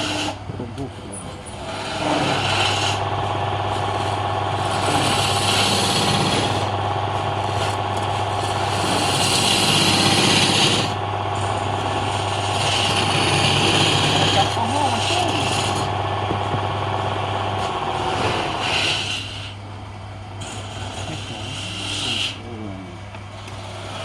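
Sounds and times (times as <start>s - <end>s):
hissing wood cutting: 0.0s - 19.7s, 20.3s - 24.0s
machine motor humming: 0.0s - 24.0s.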